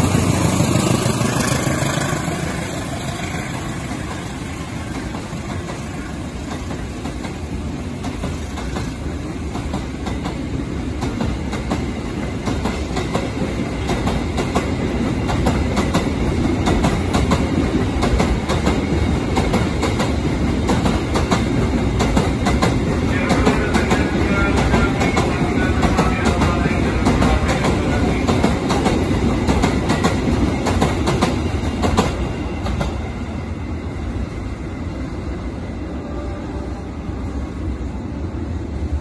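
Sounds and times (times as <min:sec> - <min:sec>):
freight train rumble: 0:00.0 - 0:39.0.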